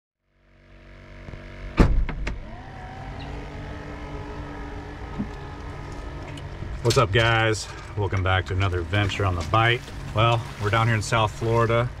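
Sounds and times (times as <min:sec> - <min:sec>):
aerator pump humming and whining: 0:00.3 - 0:12.0.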